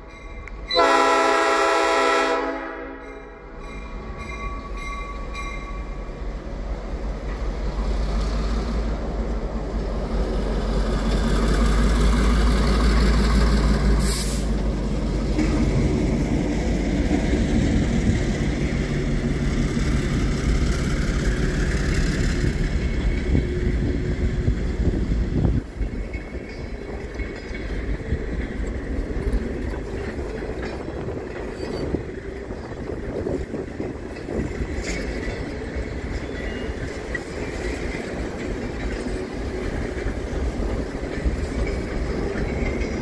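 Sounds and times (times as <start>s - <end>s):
diesel locomotive engine passing: 0.0s - 43.0s
freight cars rolling on rails: 0.0s - 43.0s.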